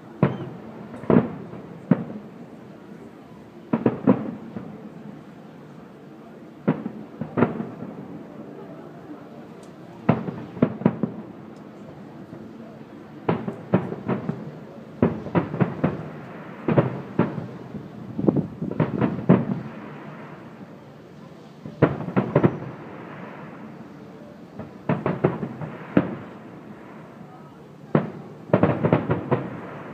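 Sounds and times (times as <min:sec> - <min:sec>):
fireworks bursting: 0:00.0 - 0:03.1, 0:03.7 - 0:05.4, 0:06.5 - 0:08.6, 0:09.8 - 0:29.9.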